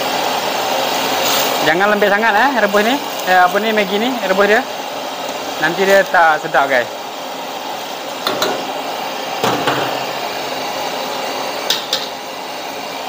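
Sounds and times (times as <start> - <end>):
gas stove burner rushing: 0.0 - 13.0.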